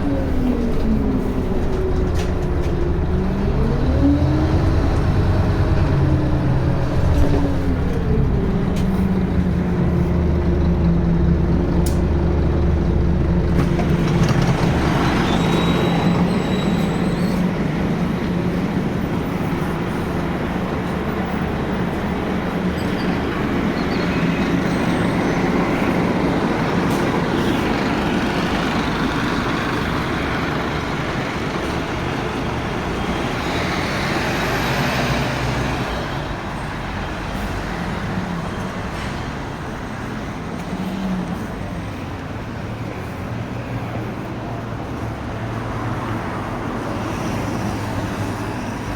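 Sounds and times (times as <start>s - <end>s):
bus engine hum: 0.0s - 48.9s
rushing road noise: 0.0s - 48.9s.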